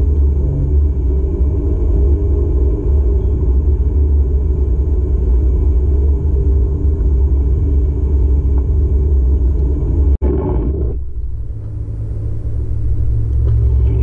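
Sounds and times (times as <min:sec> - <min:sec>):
engine and tyre rumble: 0:00.0 - 0:14.0
steady low hum: 0:00.0 - 0:14.0.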